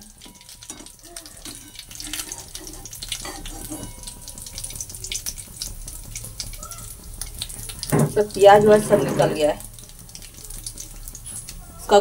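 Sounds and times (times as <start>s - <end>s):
oil sizzling with crackling pops: 0.0s - 12.0s.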